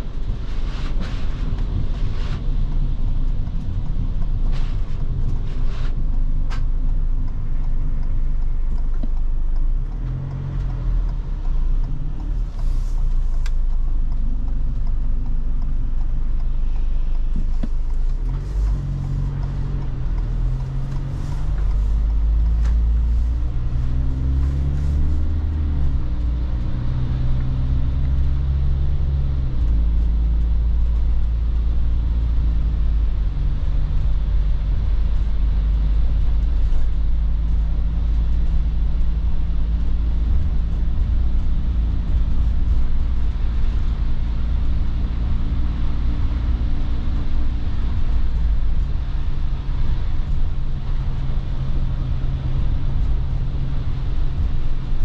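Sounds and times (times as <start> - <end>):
diesel engine running: 0.0 - 55.0
tyre and road noise: 0.0 - 55.0.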